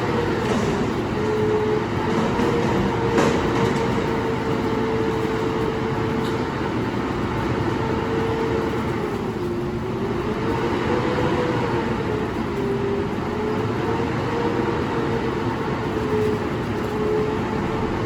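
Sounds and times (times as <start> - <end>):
garbage truck whine: 0.0 - 18.0.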